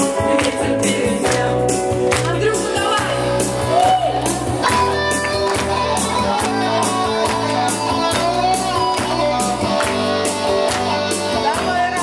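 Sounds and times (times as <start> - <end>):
bass: 0.0 - 12.0
electric guitar chords: 0.0 - 12.0.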